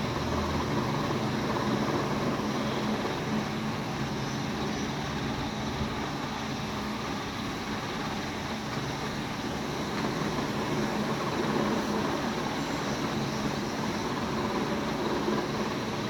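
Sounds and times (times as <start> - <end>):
background rumble and hiss: 0.0 - 16.0.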